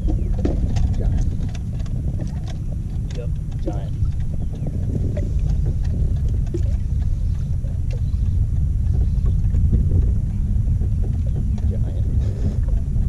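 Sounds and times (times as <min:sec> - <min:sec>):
water moving against hull: 0:00.0 - 0:13.0
wind buffeting microphone: 0:00.0 - 0:13.0.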